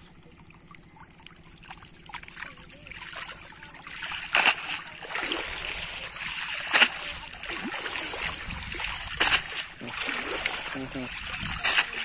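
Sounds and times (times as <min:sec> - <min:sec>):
water splashing and sloshing: 0:00.0 - 0:12.0
sharp splashes: 0:00.8 - 0:12.0.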